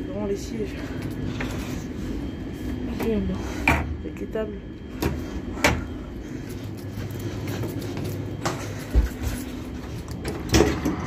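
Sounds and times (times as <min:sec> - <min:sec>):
low train hum: 0:00.0 - 0:11.0.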